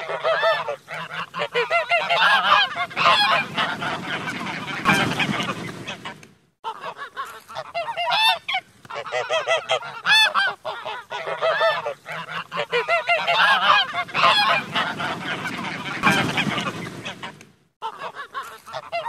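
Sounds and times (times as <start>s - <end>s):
geese honking: 0.0s - 19.0s.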